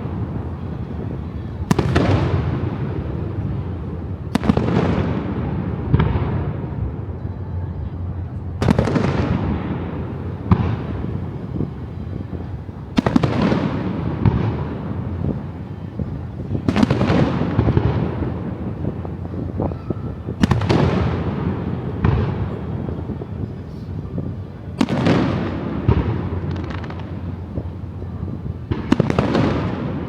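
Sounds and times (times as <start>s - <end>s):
rolling rumble: 0.0s - 30.0s.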